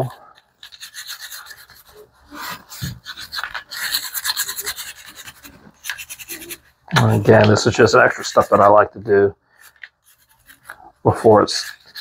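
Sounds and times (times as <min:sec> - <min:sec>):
brush scrubbing textured grip: 0:00.0 - 0:12.0.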